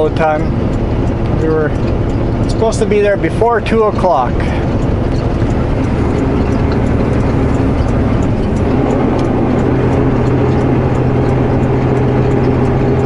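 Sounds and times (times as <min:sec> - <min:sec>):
faint regular ticking: 0:00.0 - 0:13.0
truck diesel engine droning: 0:00.0 - 0:13.0.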